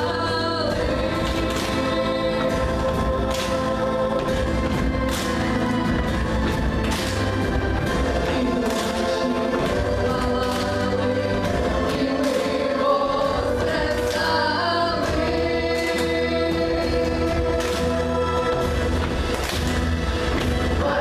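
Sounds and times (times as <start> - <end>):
girls singing together: 0.0 - 7.0, 7.8 - 21.0
amplified instrumental accompaniment: 0.0 - 21.0.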